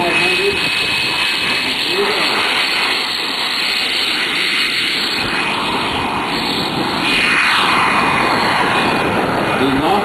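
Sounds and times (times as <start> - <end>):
model jet turbine whine: 0.0 - 10.0.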